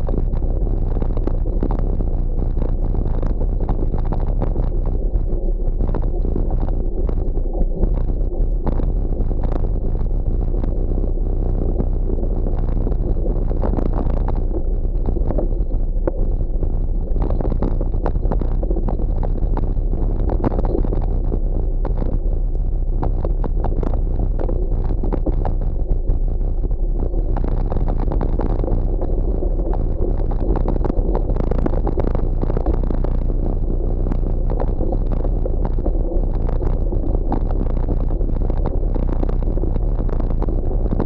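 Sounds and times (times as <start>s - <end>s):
wind on microphone: 0.0s - 41.0s.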